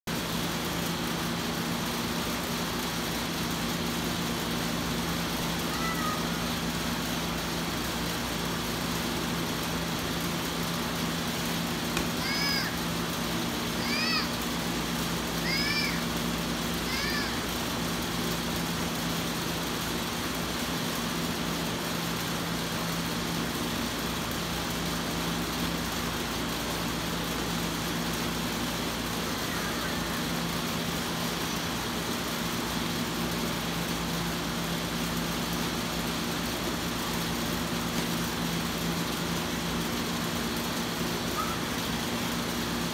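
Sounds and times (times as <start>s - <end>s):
constant hiss: 0.1s - 42.9s
steady mechanical hum: 0.1s - 42.9s.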